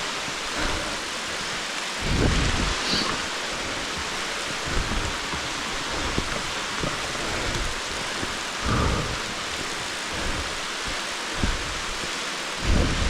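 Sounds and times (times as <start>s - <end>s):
heavy rain hissing: 0.0s - 13.0s
low rumbles and thumps: 0.0s - 13.0s.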